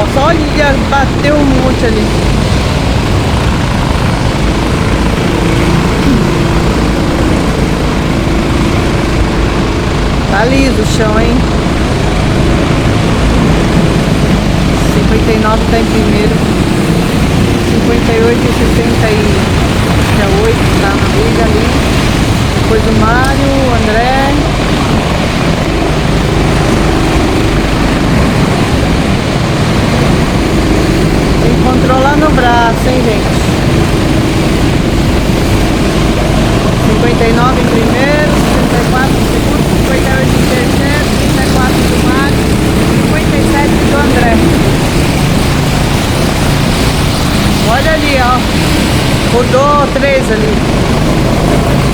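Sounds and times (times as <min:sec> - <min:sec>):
go-kart engines running: 0:00.0 - 0:51.9
loud steady rushing noise: 0:00.0 - 0:51.9.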